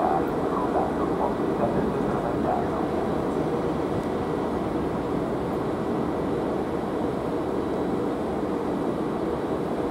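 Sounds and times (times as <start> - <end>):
electric locomotive rumbling: 0.0 - 9.9.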